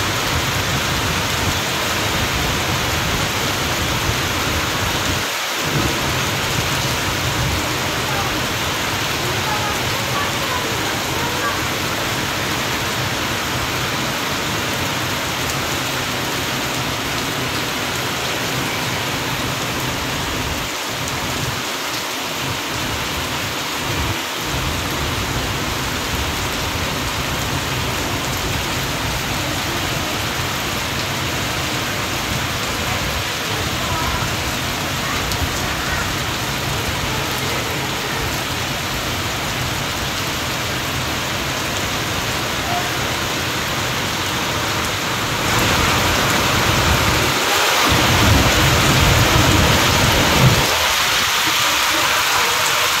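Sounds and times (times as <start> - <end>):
rain falling steadily: 0.0 - 53.0.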